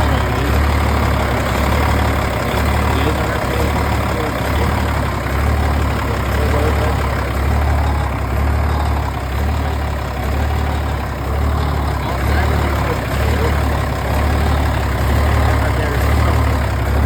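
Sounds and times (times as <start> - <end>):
loud diesel truck engine idling: 0.0 - 17.0.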